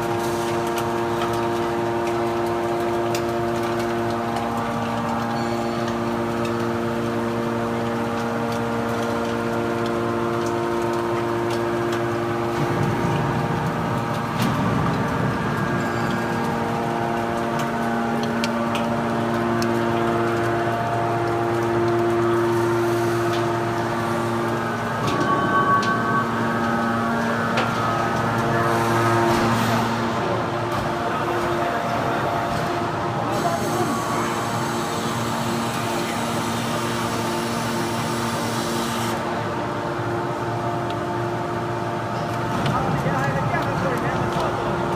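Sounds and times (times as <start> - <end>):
hydraulic pump whine: 0.0 - 44.9.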